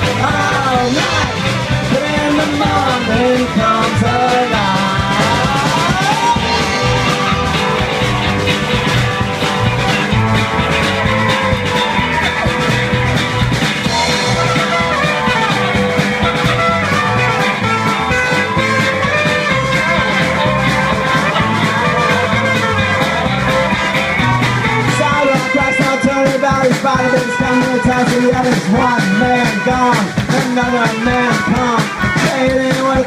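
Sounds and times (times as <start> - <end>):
live rock band playing: 0.0 - 33.0
steady drumbeat: 0.0 - 33.0.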